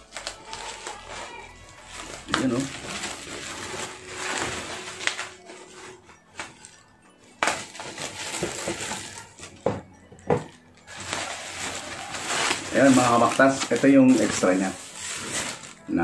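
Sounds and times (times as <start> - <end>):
bubble wrap and plastic bag rustling: 0.0 - 16.0
sharp plastic crackles: 0.0 - 16.0.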